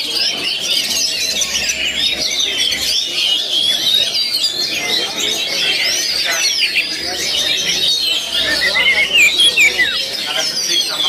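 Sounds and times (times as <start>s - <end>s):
songbirds whistling and trilling: 0.0s - 11.0s.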